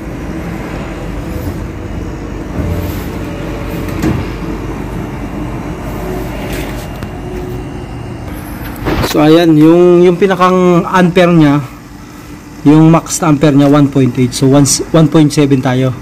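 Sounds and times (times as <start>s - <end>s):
freezer compressor humming: 0.0s - 16.0s.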